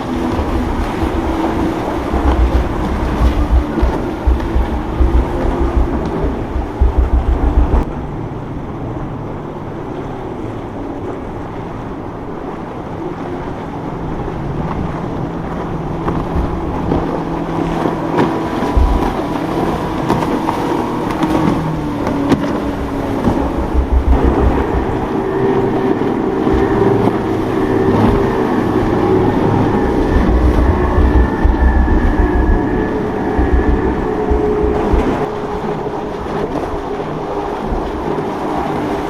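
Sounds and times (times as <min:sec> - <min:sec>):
motorboat engines: 0:00.0 - 0:39.0
wind buffeting microphone: 0:00.0 - 0:39.0.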